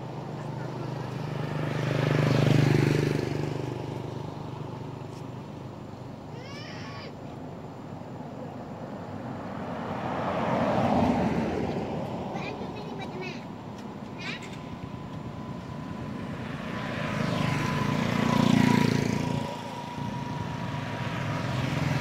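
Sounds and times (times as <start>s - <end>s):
vehicles passing on road: 0.0s - 22.0s.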